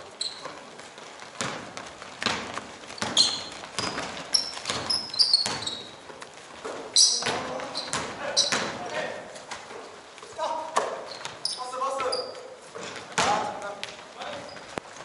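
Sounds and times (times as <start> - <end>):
basketball bouncing on court: 0.0 - 9.7, 10.8 - 15.0
sneakers squeaking on floor: 0.0 - 15.0.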